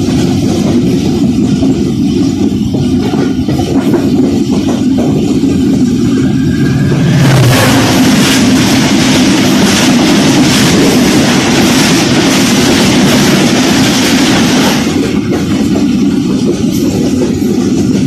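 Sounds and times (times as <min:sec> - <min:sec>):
passing train rushing by: 0:00.0 - 0:18.0
train running rumble: 0:00.0 - 0:18.0.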